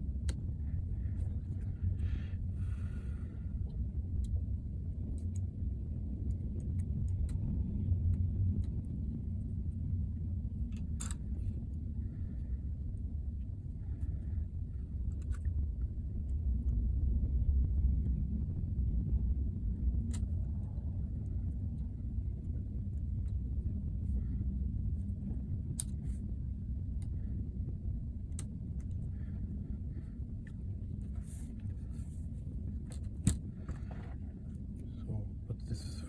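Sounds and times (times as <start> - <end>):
low background rumble: 0.0 - 36.0.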